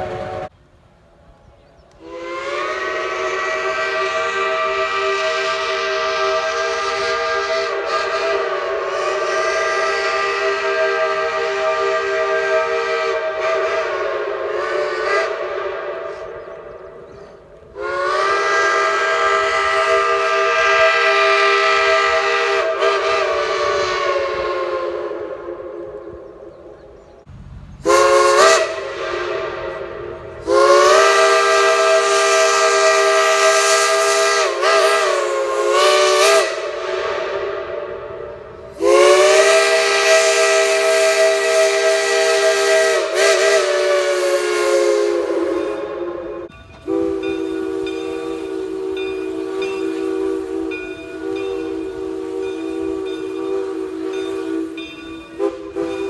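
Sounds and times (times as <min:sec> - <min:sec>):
steam locomotive chime whistle: 0:02.0 - 0:27.1, 0:27.8 - 0:56.0.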